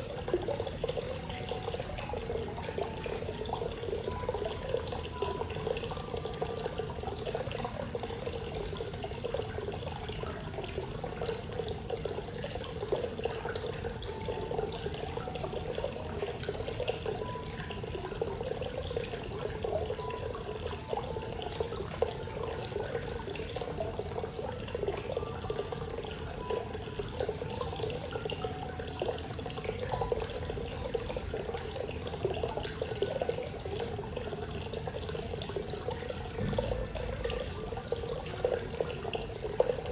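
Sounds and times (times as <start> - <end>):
water pouring into a bath: 0.0 - 39.9.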